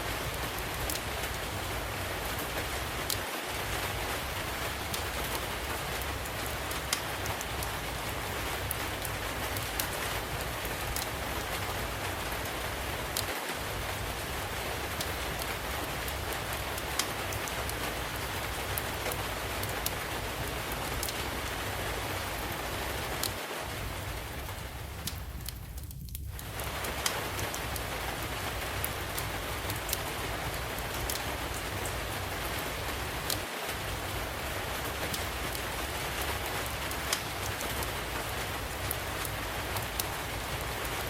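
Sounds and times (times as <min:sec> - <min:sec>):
steady rain falling: 0:00.0 - 0:41.0
wood fire crackling: 0:00.0 - 0:41.0.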